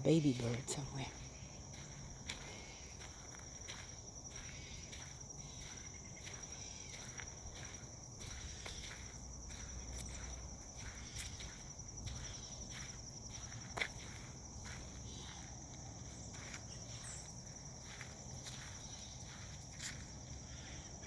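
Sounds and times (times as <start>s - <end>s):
footsteps on woodland path: 0.0s - 21.0s
insect trill: 0.0s - 21.0s.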